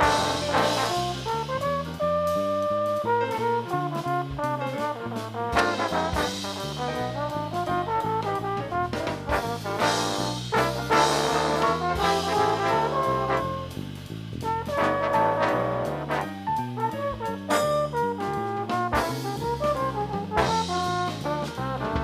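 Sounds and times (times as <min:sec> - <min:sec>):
trombone ensemble playing jazz: 0:00.0 - 0:22.0.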